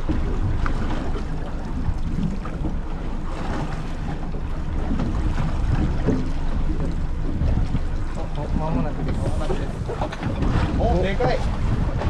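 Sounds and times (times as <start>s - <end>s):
sea wash: 0.0s - 12.0s
steady low rumble: 0.0s - 12.0s
wind buffeting microphone: 0.0s - 12.0s.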